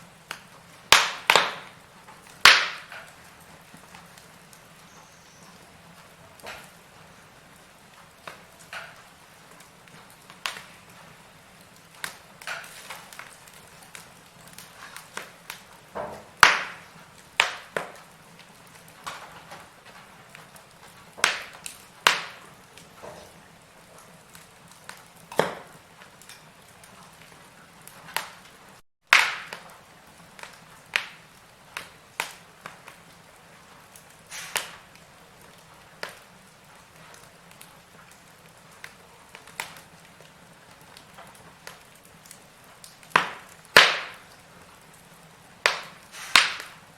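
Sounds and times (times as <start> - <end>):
firewood crackling and popping: 0.0 - 46.9.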